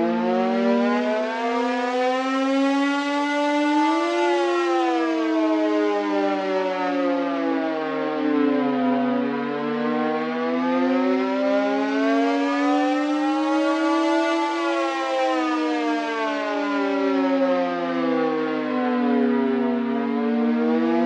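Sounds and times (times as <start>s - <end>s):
civil defense siren wailing: 0.0s - 21.0s.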